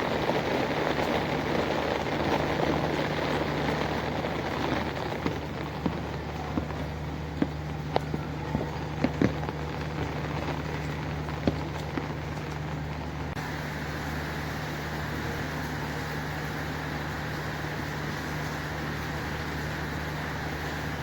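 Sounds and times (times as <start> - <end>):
low mechanical hum: 0.0 - 21.0
rain hiss: 0.0 - 21.0.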